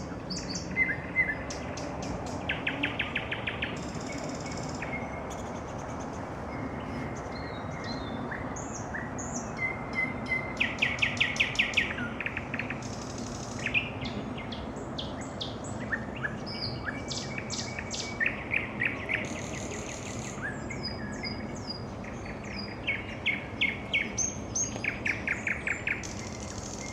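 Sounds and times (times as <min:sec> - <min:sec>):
nightingale singing: 0:00.0 - 0:26.9
steady background hiss: 0:00.0 - 0:26.9.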